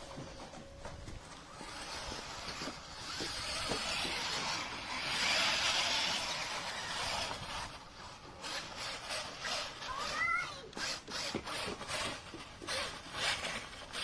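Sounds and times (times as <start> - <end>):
toy truck motor whirring: 0.5 - 14.0.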